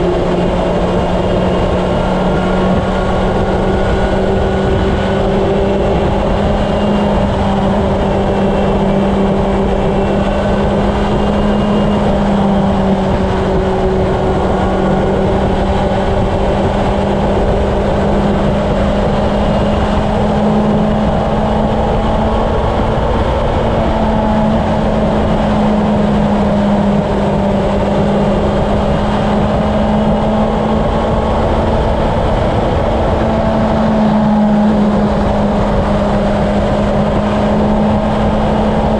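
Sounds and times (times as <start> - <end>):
motorcycle engine humming: 0.0 - 38.9
wind buffeting microphone: 0.0 - 38.9.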